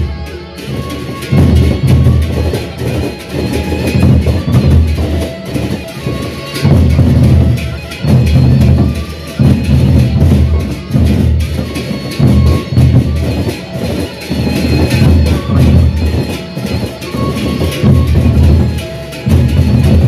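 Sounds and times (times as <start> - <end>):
ringing metal percussion: 0.0 - 20.0
barrel drums beaten with sticks: 0.7 - 20.0.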